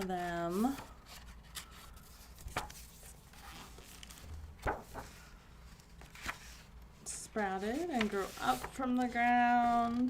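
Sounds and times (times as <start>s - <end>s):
picture book being handled: 0.0s - 10.0s.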